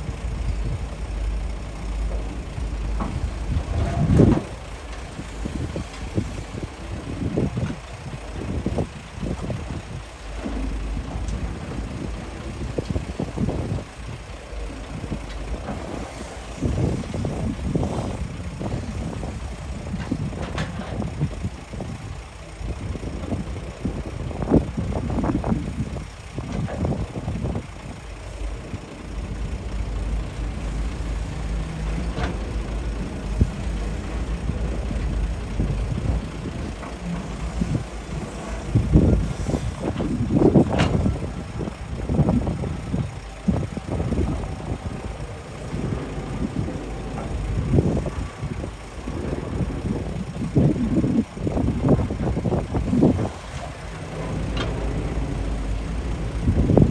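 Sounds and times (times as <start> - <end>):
excavator diesel engine rumbling: 0.0 - 56.9.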